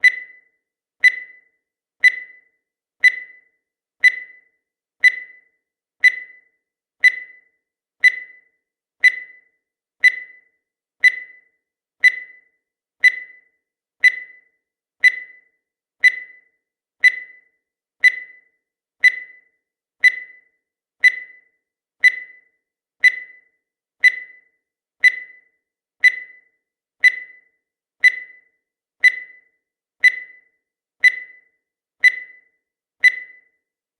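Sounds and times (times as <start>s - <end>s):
timer ticking: 0.0s - 33.7s.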